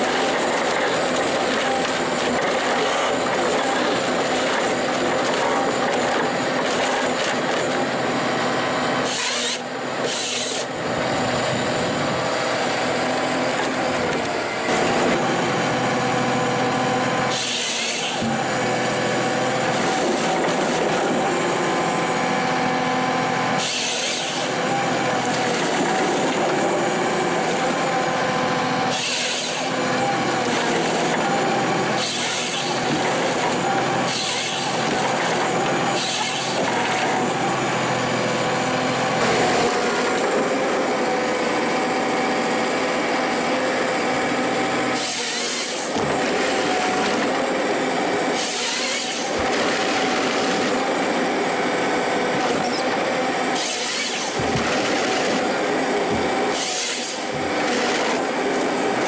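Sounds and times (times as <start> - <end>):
forestry harvester running: 0.0 - 59.0.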